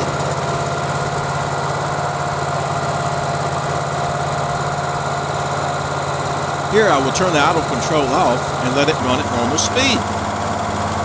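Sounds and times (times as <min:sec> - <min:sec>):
generator engine idling: 0:00.0 - 0:11.0.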